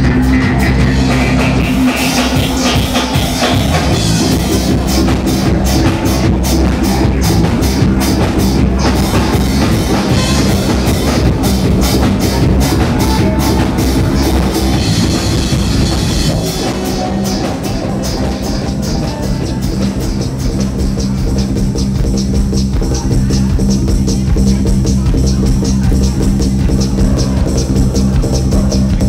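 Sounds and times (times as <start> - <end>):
drum kit beat: 0.0 - 29.0
live band playing loud music: 0.0 - 29.0.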